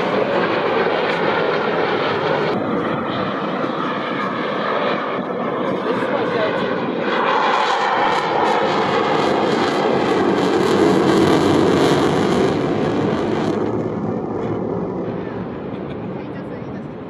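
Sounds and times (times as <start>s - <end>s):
jet engines roaring in afterburner: 0.0s - 17.0s.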